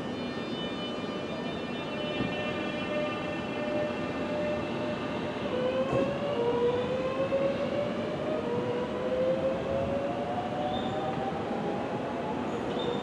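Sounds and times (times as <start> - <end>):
train rumble: 1.1 - 13.0.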